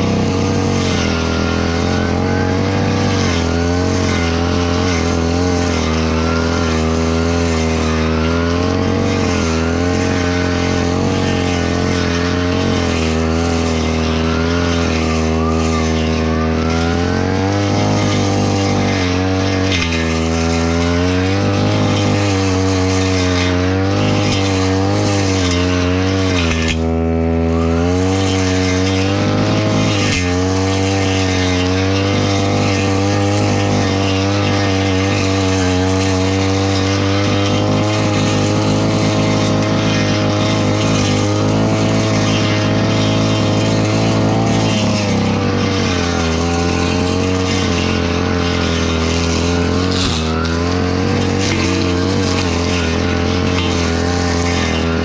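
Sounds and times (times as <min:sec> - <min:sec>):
brush cutter engine cutting grass: 0:00.0 - 0:55.0.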